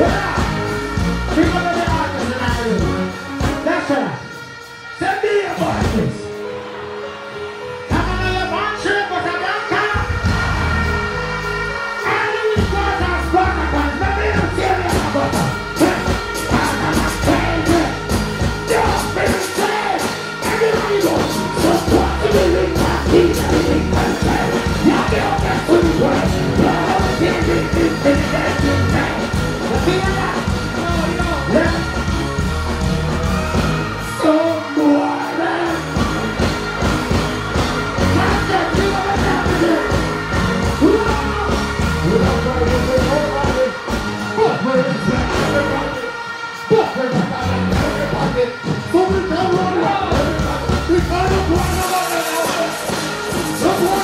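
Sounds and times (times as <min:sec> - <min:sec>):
dancehall backing riddim: 0:00.0 - 0:54.0.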